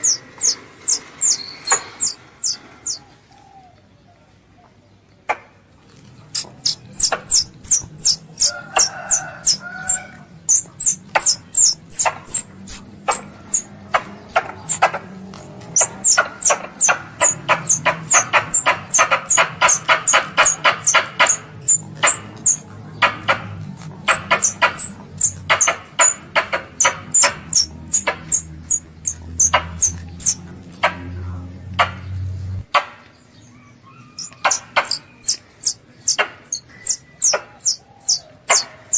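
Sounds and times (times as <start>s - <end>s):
squirrel call chips: 0.0s - 3.0s, 5.9s - 30.4s, 34.2s - 38.9s.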